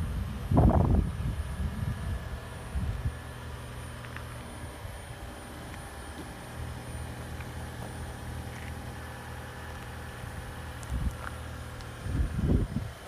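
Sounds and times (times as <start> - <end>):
car engine idling: 0.0 - 13.0
low rumbling microphone bursts: 0.0 - 13.0.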